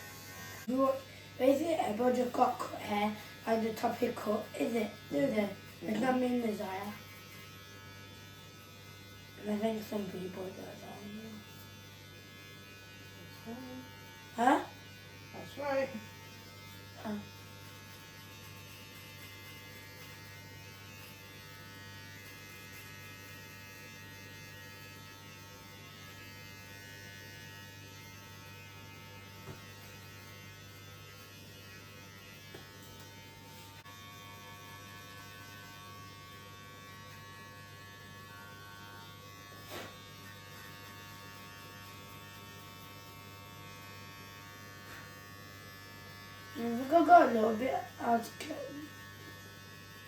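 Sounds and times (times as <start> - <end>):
electric hair clippers buzzing: 0.0 - 50.0.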